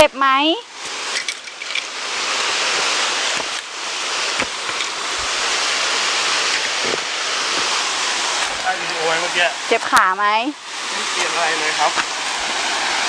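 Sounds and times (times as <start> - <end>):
waterfall rushing water: 0.6 - 13.0.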